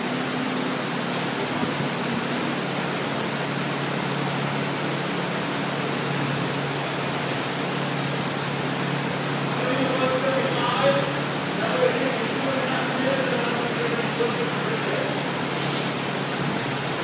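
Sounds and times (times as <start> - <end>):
rushing fan noise: 0.0 - 17.0.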